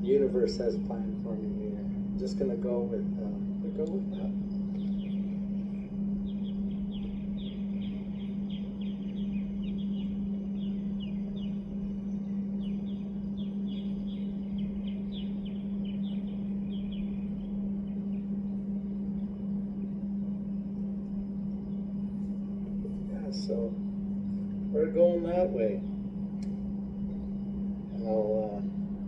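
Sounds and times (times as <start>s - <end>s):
birds chirping: 0.0s - 29.0s
steady low hum: 0.0s - 29.0s.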